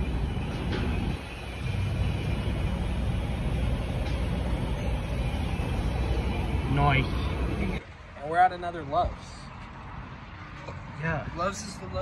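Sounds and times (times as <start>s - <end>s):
idling vehicle engines rumble: 0.0s - 9.7s.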